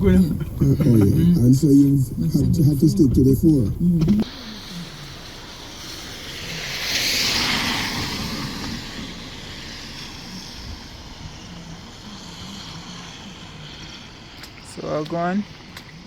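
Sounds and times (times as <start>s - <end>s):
vehicle passing by: 0.0s - 14.6s.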